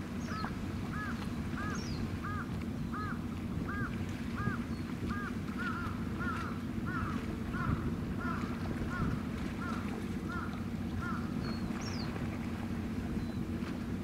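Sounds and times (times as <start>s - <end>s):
wind on microphone: 0.0s - 13.7s
ship engine rumble: 0.0s - 14.0s
bird calling: 0.2s - 12.3s.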